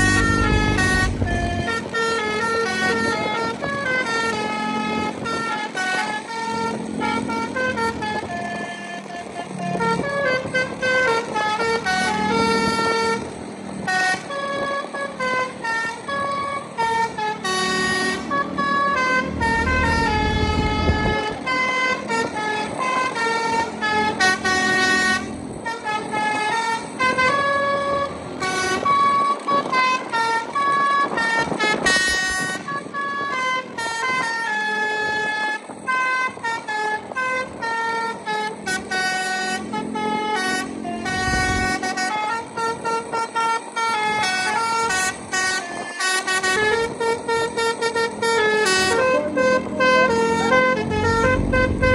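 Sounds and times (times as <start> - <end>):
keyboard horn playing a tune: 0.0 - 13.3, 13.9 - 51.9
passing engine rumble: 0.0 - 51.9
road traffic: 0.0 - 51.9.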